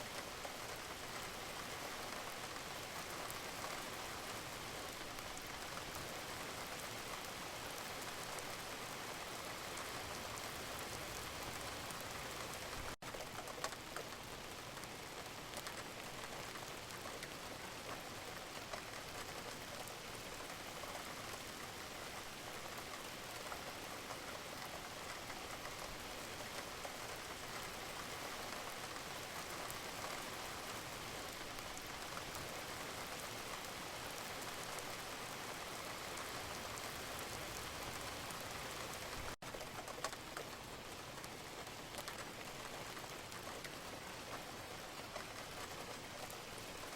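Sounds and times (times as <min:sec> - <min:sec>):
rain on a hard surface: 0:00.0 - 0:46.9.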